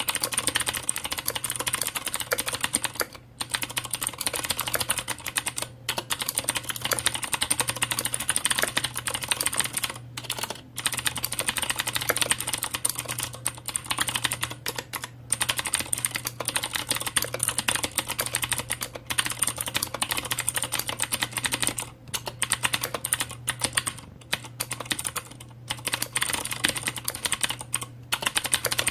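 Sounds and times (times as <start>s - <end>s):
steady low hum: 0.0s - 28.9s
typing on mechanical keyboard: 0.0s - 28.9s.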